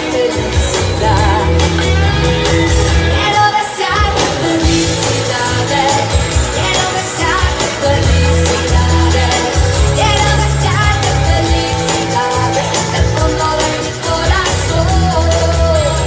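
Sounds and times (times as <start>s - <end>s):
backing track with bass beat: 0.0s - 3.4s, 4.0s - 16.0s
woman singing: 0.0s - 16.0s.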